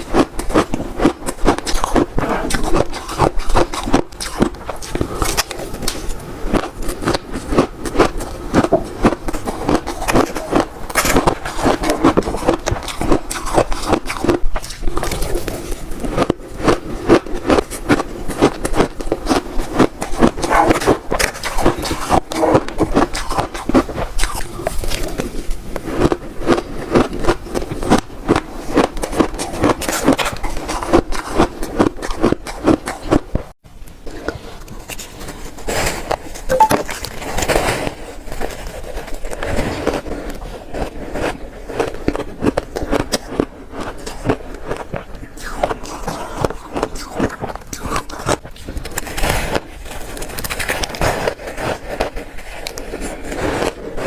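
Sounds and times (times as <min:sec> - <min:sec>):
chewing and crunching shaved ice: 0:00.0 - 0:33.6, 0:34.2 - 0:54.0.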